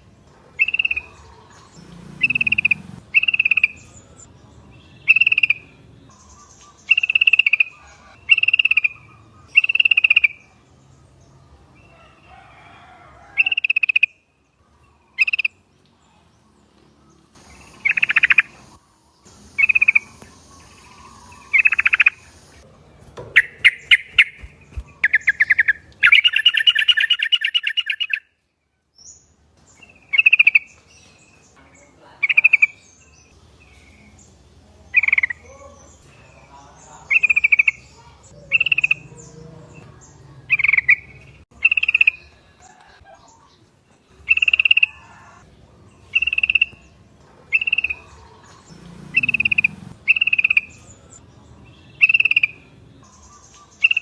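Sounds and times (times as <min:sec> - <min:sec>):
bulbuls calling: 0:00.0 - 0:15.7, 0:17.0 - 0:28.3, 0:29.8 - 0:54.0.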